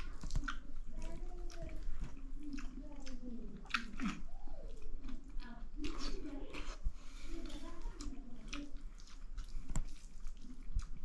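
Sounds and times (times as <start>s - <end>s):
chewing and lip smacks: 0.0s - 11.0s.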